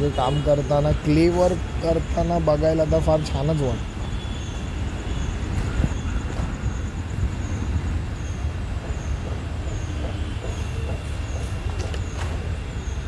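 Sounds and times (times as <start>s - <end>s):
low rumble of vehicles: 0.0s - 13.0s.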